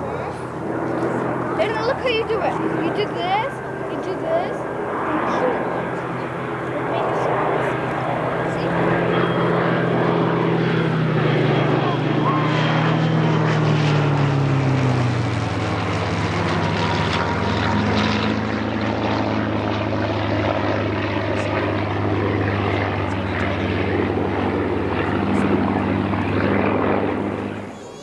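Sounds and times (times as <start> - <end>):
propeller plane engine droning: 0.0 - 28.0.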